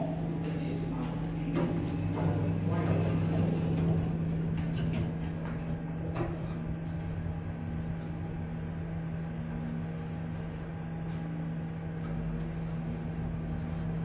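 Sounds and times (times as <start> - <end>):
elevator humming: 0.0 - 14.0.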